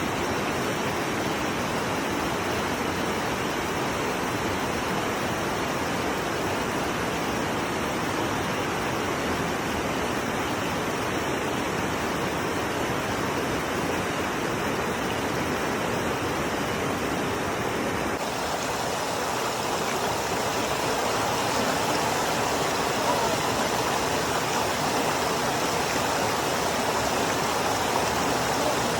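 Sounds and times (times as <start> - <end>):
flowing water rushing: 0.0 - 28.9.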